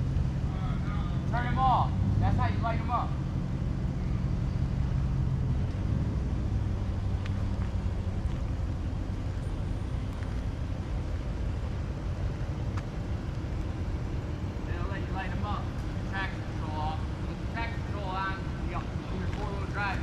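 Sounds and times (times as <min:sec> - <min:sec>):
car engine idling rumble: 0:00.0 - 0:20.0.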